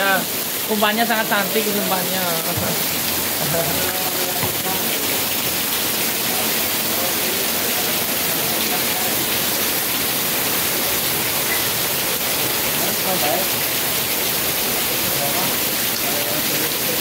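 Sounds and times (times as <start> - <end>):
heavy rain on pavement: 0.0 - 17.0.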